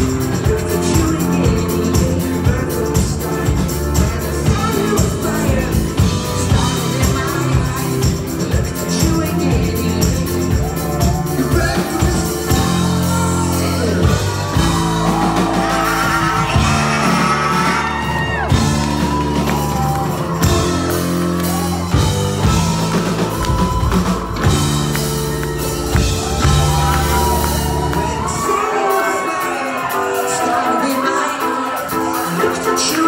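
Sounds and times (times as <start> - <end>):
lead vocal singing: 0.0 - 22.6, 26.2 - 33.0
live band playing: 0.0 - 33.0.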